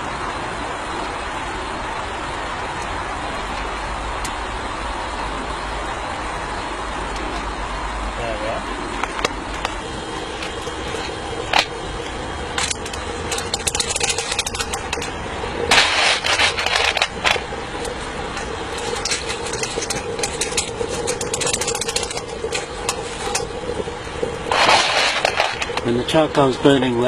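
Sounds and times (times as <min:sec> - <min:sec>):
electric fan humming: 0:00.0 - 0:27.0.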